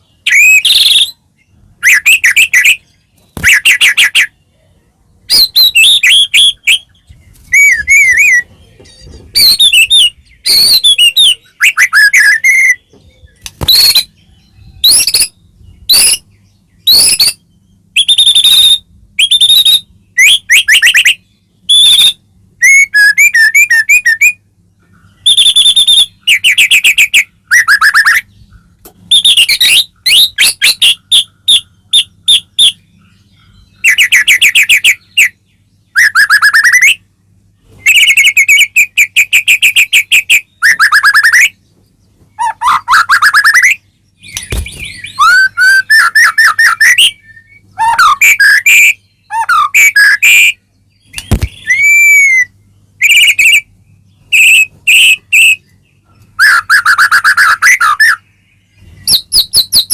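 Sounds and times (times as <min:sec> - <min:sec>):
bird singing loudly: 0:00.0 - 0:04.5, 0:05.3 - 0:37.1, 0:37.8 - 0:41.6, 0:42.4 - 0:59.9.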